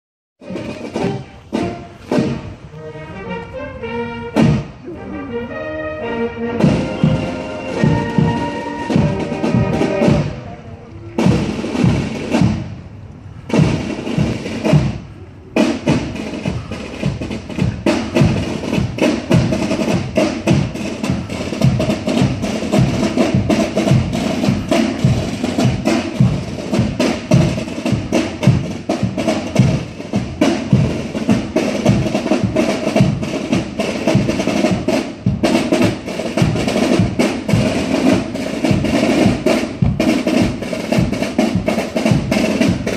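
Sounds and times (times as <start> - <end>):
marching snare and bass drums: 0.4 - 5.0, 6.4 - 42.9
marching band tune: 0.4 - 42.9.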